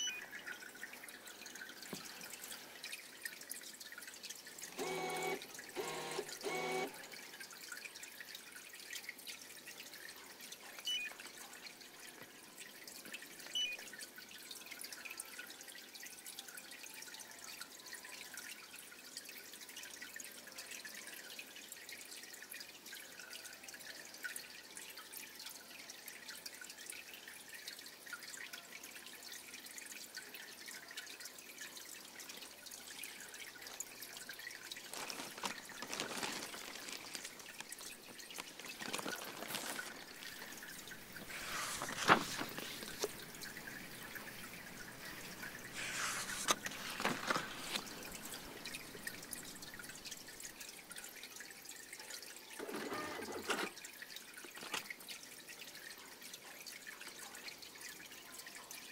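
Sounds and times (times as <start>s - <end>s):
water dripping and trickling: 0.0s - 52.6s, 53.4s - 58.9s.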